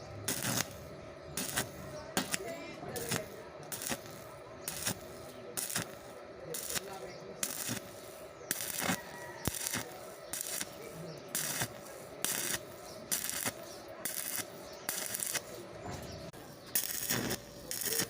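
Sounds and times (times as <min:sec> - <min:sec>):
welding arc crackling hiss: 0:00.0 - 0:15.9, 0:16.7 - 0:18.0.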